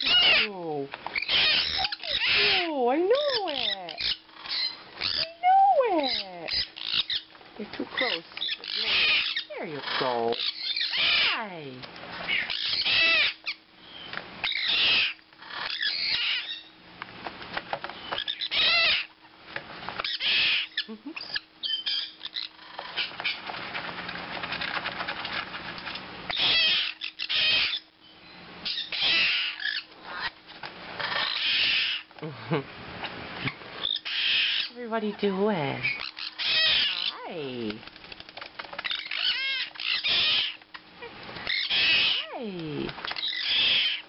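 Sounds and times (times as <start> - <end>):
parrots squawking: 0.0 - 11.6, 12.2 - 16.8, 18.1 - 19.2, 20.0 - 23.5, 26.3 - 28.0, 28.6 - 32.1, 33.4 - 37.8, 38.7 - 44.0.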